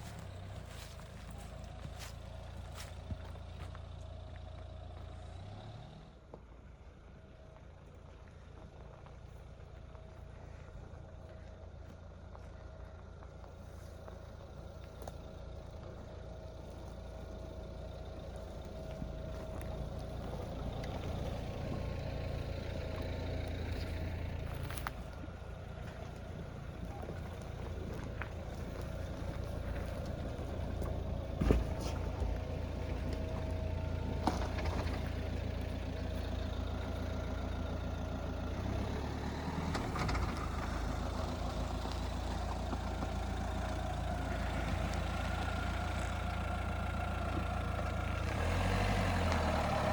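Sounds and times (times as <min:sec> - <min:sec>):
diesel engine rumbling: 0:00.0 - 0:49.9.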